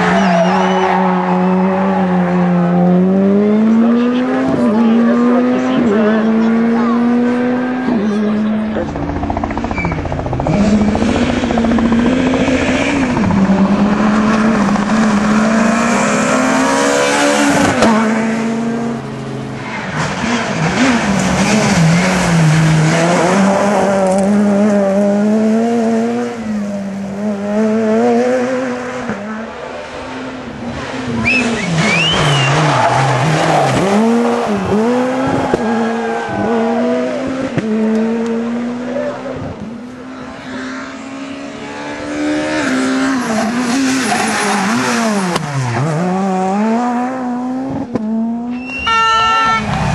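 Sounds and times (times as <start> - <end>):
rally car engines revving hard: 0.0 - 48.8.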